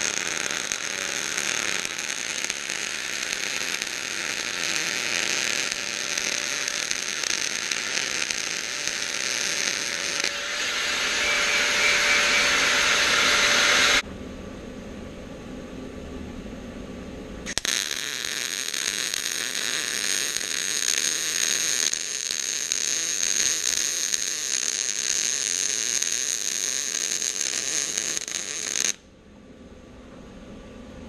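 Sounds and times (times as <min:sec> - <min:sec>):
welding arc crackling and hissing: 0:00.0 - 0:14.0, 0:17.5 - 0:29.0.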